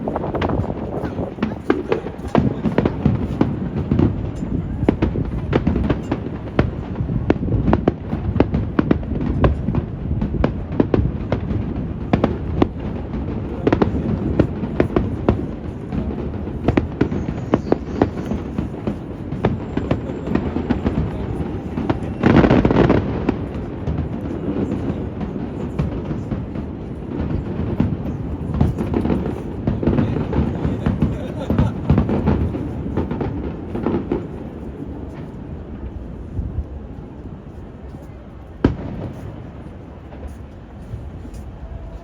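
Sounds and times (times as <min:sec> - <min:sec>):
fireworks bursting: 0:00.0 - 0:42.0
wind on microphone: 0:00.0 - 0:42.0.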